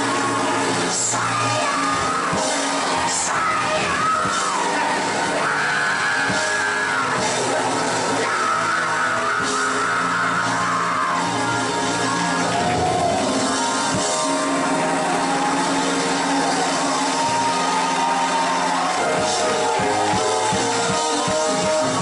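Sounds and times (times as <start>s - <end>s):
band accompaniment: 0.0s - 22.0s.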